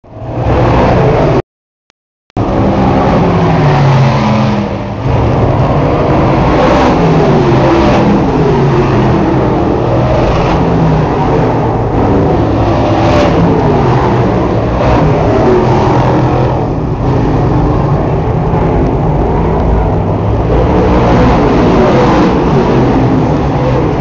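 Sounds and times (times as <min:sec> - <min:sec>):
race car engines revving: 0:00.0 - 0:01.4, 0:02.4 - 0:24.0.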